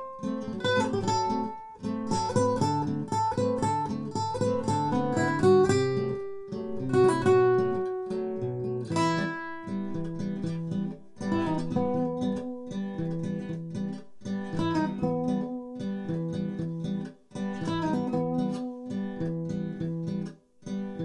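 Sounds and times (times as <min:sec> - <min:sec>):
classical guitar duet: 0:00.0 - 0:21.0.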